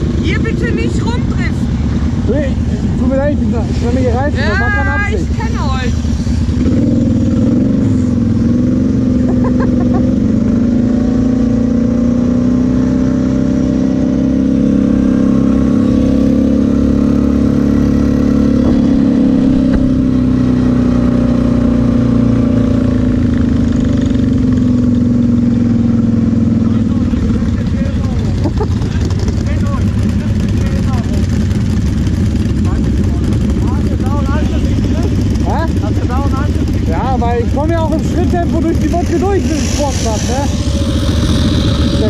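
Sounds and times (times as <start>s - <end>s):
quad engine running: 0.0s - 42.0s.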